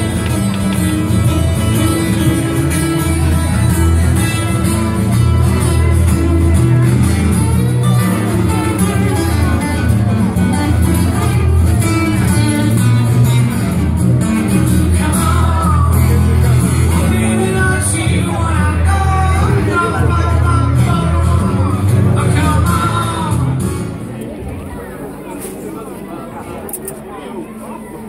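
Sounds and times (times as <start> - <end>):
steady bass: 0.0 - 24.2
guitar and singing music: 0.0 - 25.6.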